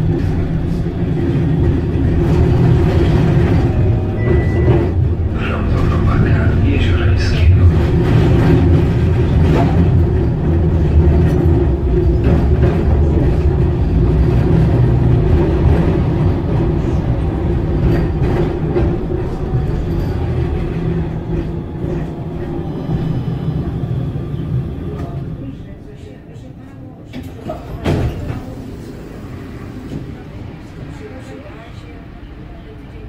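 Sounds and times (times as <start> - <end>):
tram rumbling on rails: 0.0 - 33.0.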